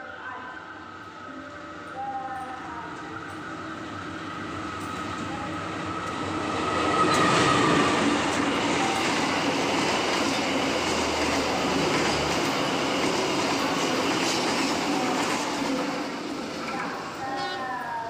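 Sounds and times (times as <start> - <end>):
passenger train passing: 0.0 - 18.0.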